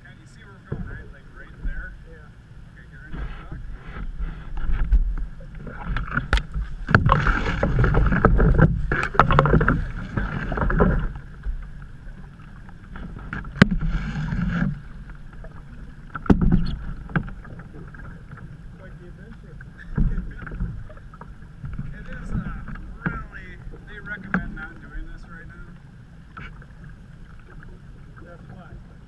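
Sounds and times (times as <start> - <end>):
canoe paddles splashing water: 0.0 - 29.0
paddle knocking against canoe: 0.6 - 2.0, 3.0 - 29.0.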